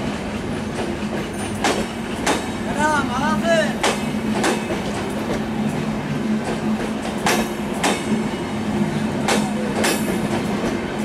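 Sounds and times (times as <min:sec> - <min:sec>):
train running hum: 0:00.0 - 0:11.0
train wheels clacking over rail joints: 0:00.0 - 0:11.0.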